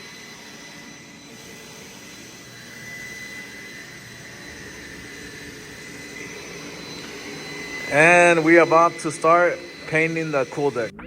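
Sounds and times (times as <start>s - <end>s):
mechanical whir with high whine: 0.0s - 11.0s.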